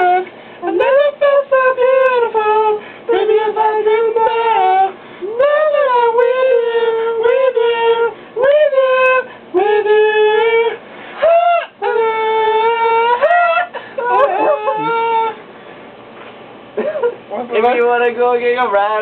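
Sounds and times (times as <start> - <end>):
person singing unaccompanied: 0.0 - 15.4.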